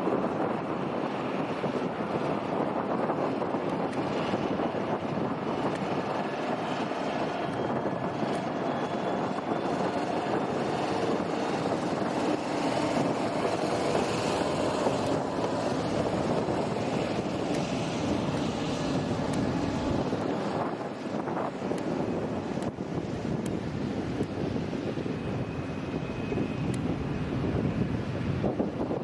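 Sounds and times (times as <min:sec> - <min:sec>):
jet engine noise: 0:00.0 - 0:29.0
wind on microphone: 0:00.0 - 0:29.0.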